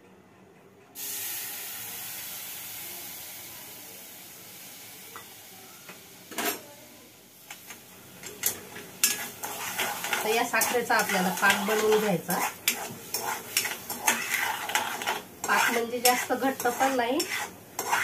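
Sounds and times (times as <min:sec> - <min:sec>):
water sizzling in hot pan: 0:01.0 - 0:18.0.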